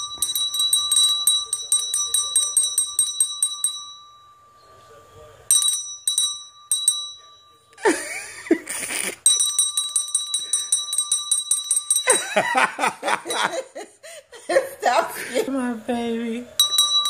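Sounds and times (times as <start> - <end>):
small bell ringing: 0.0 - 14.0, 16.5 - 17.0.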